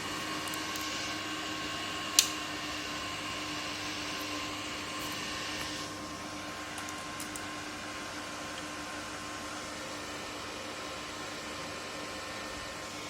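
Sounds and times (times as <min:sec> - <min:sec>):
electrical hum and whine: 0:00.0 - 0:13.0
welding machine fan whirring: 0:00.0 - 0:13.0.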